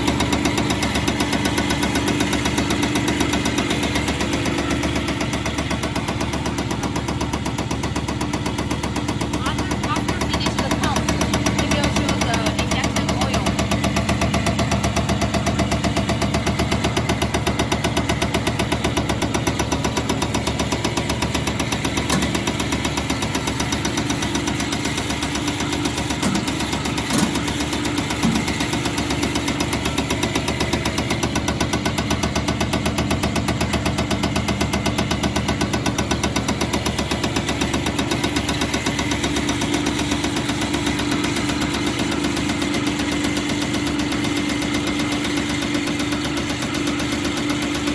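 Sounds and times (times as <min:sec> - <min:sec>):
motor and pump hum: 0:00.0 - 0:47.9.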